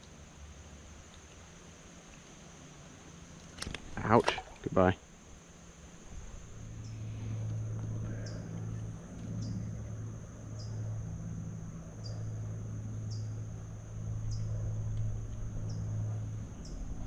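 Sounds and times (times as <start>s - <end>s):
insects buzzing: 0.0s - 17.0s
low hum: 0.0s - 17.0s.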